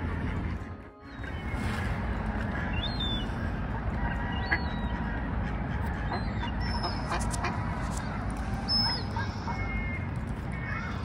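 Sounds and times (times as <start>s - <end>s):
ducks calling: 0.0s - 11.0s
steady low rumble: 0.0s - 11.0s.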